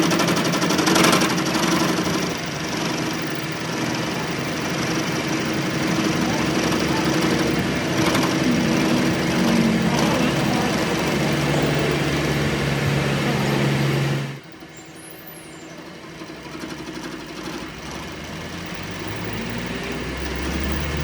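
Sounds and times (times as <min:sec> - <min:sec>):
lower machine hum: 0:00.0 - 0:21.0
workshop machine humming loudly: 0:00.0 - 0:21.0.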